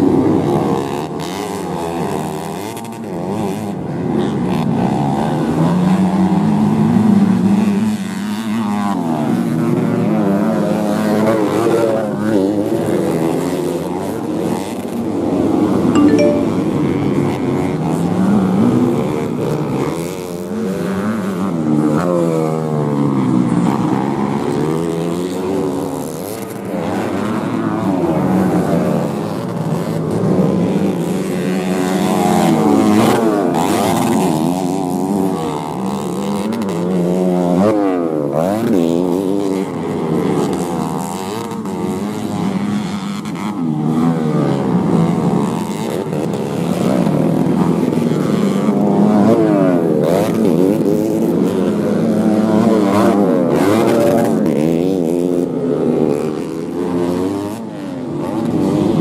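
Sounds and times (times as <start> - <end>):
motorcycle engines revving: 0.0 - 15.5, 19.6 - 59.0.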